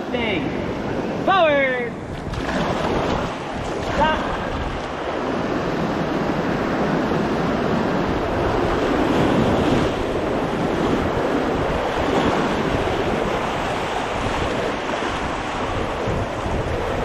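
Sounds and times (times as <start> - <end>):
river water rushing: 0.0 - 17.0
wind buffeting microphone: 0.0 - 17.0.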